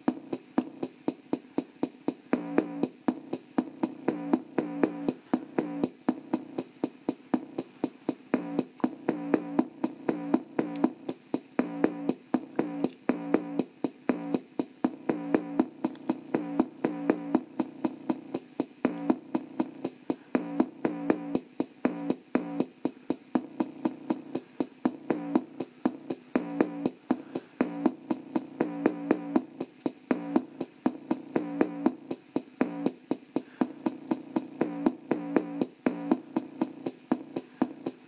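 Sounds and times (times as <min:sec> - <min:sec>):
electronic music from small speaker: 0:00.0 - 0:38.0.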